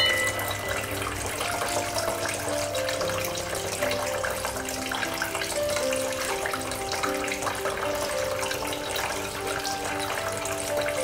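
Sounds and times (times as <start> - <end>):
fountain water trickling: 0.0 - 11.0
slow melodic background music: 0.0 - 11.0.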